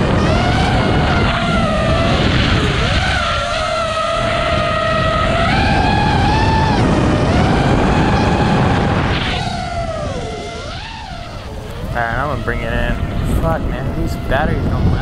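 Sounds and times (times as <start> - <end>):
drone motors whining: 0.0 - 15.0
rushing wind noise: 0.0 - 15.0.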